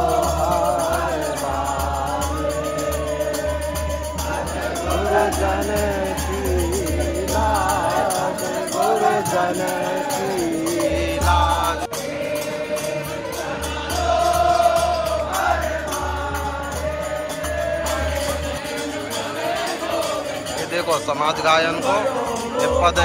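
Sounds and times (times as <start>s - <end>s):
group singing in unison: 0.0s - 23.0s
percussion beat: 0.0s - 23.0s.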